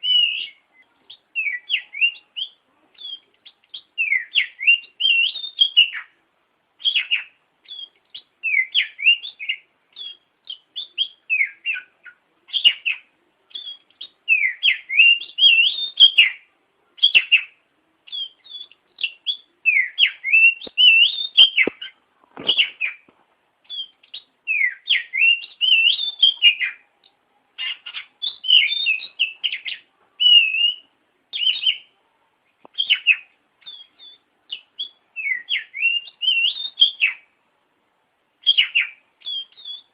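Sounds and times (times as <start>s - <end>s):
bird singing whistled phrases: 0.0s - 6.1s, 6.8s - 16.4s, 17.0s - 23.0s, 23.7s - 26.8s, 27.6s - 31.9s, 32.8s - 37.3s, 38.4s - 39.9s.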